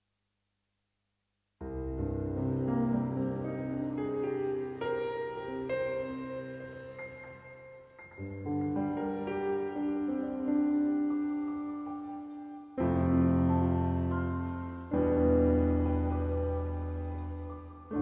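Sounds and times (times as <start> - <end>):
piano playing slow chords: 1.6 - 18.0.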